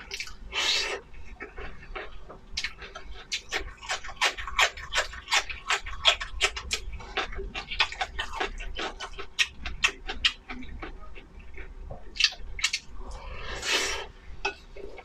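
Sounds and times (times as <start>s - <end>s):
wet chewing and lip-smacking: 0.0s - 12.9s.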